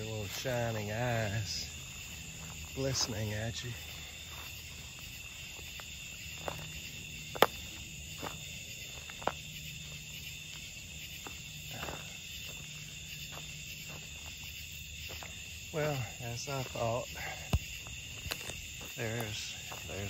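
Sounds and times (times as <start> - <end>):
crickets buzzing: 0.0 - 20.0
footsteps on leaf litter: 0.0 - 20.0.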